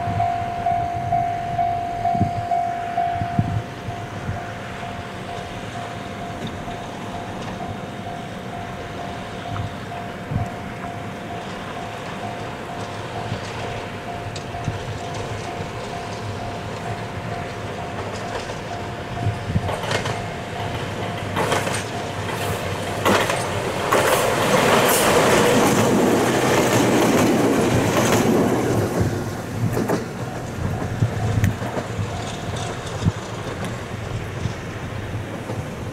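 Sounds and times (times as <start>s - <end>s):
electric train passing: 0.0s - 35.9s
train wheels clacking over rail joints: 5.3s - 35.9s.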